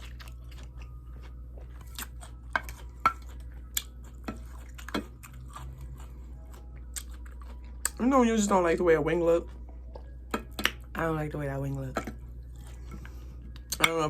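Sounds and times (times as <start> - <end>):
chewing food: 0.0 - 10.9, 11.9 - 14.0.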